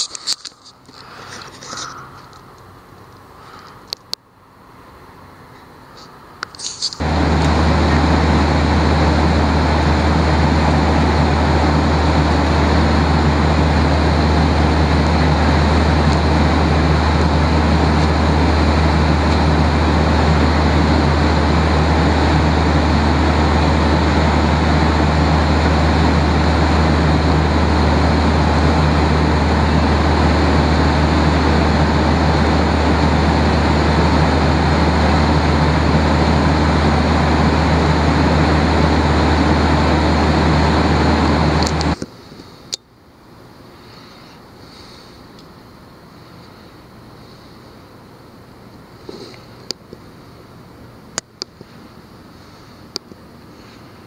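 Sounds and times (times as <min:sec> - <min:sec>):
airliner cabin drone: 0:04.6 - 0:54.0.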